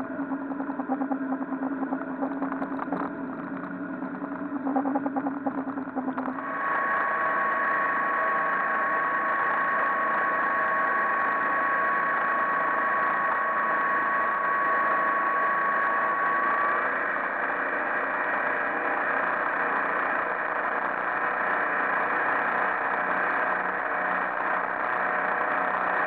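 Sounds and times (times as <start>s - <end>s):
boat engine drone: 0.0s - 26.0s
thin steady whine: 0.0s - 26.0s.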